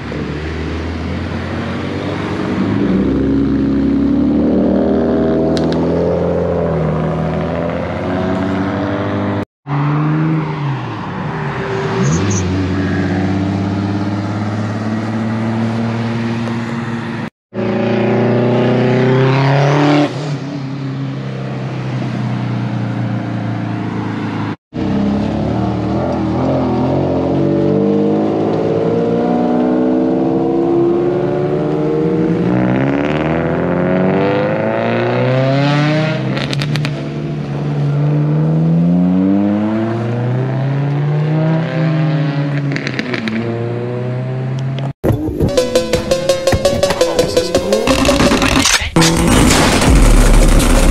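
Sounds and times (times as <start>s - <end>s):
cars accelerating and passing: 0.0s - 50.9s.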